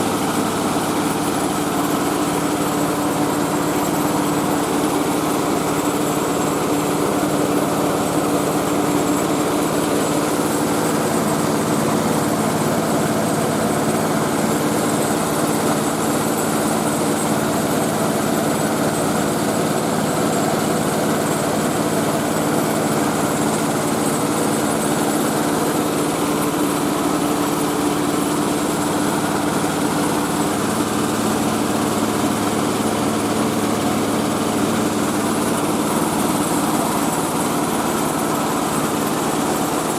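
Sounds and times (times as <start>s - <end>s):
rice milling machine drone: 0.0s - 39.9s.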